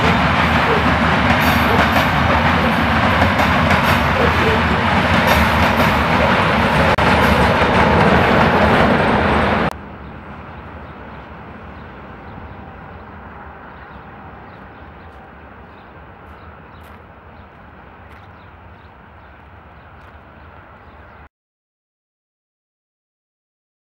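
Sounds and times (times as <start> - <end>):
locomotive engine running: 0.0 - 21.2
train wheels on rails: 0.0 - 21.3.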